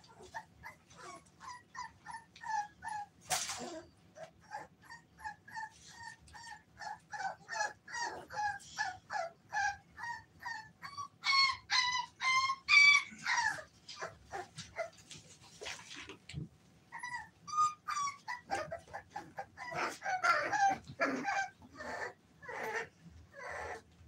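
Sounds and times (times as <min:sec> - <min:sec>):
puppies whimpering: 0:00.0 - 0:15.0, 0:16.9 - 0:23.9.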